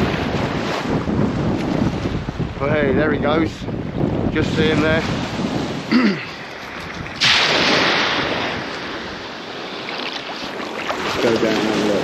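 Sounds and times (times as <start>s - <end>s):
wave breaking on beach: 0.0s - 2.4s, 4.2s - 12.0s.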